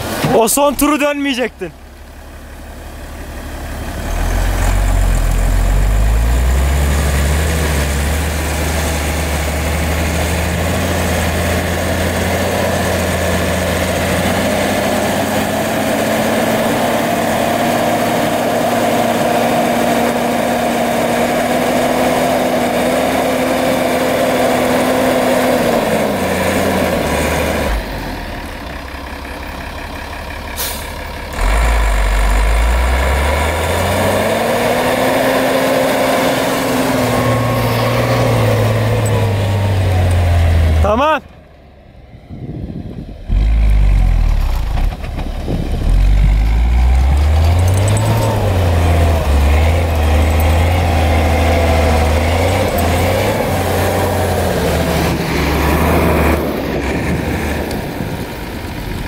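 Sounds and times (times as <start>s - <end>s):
diesel truck engine working hard: 0.0s - 59.0s.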